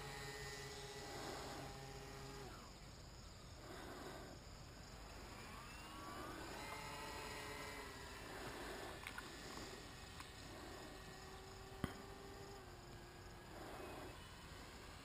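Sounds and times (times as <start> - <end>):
model plane motors whining: 0.0 - 15.0.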